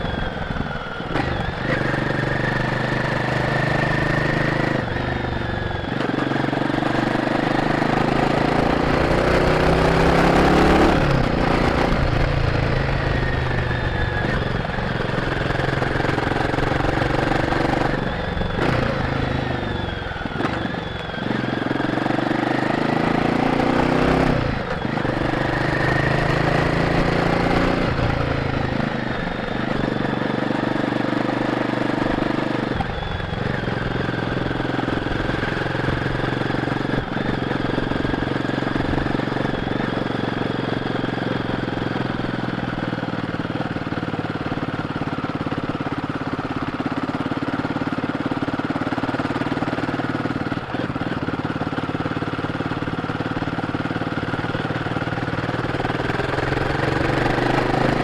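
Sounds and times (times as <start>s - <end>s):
motorcycle engine pulling through revs: 0.0s - 58.0s.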